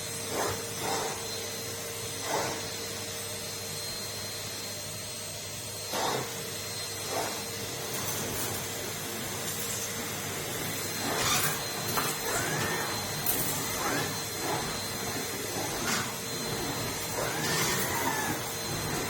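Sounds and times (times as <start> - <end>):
vacuum cleaner humming: 0.0 - 19.0.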